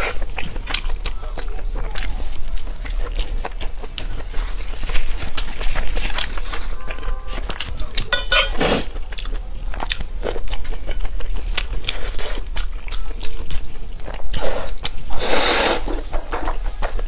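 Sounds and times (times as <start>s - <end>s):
wet chewing and biting: 0.0s - 17.0s.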